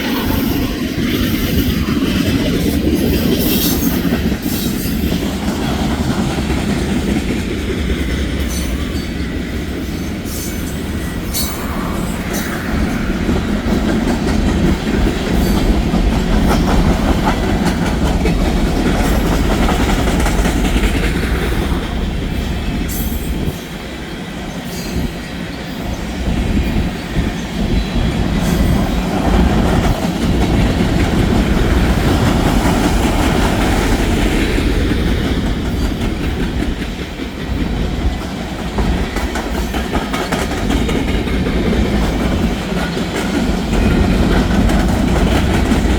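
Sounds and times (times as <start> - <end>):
train rolling on rails: 0.0 - 45.9.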